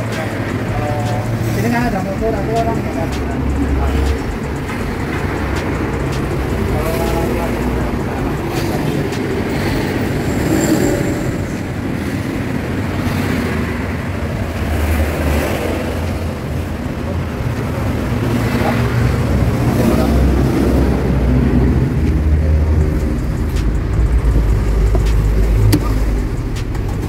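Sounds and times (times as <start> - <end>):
road traffic engine rumble: 0.0 - 27.0.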